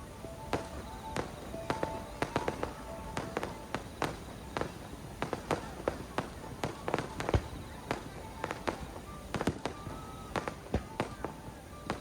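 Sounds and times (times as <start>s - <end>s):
fireworks cracking and booming: 0.0s - 12.0s.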